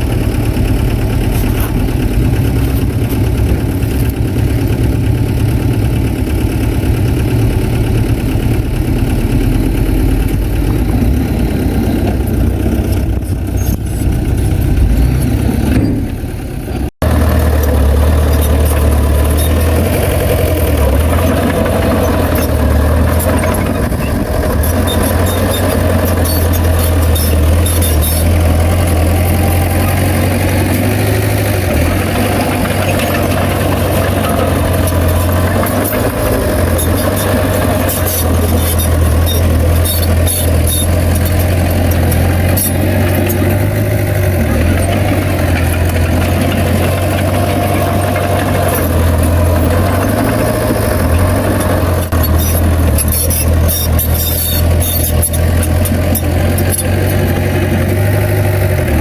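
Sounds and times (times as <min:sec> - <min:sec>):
bulldozer diesel engine running: 0:00.0 - 0:59.0
sharp clicks and squeaks: 0:00.9 - 0:04.9, 0:09.4 - 0:57.6.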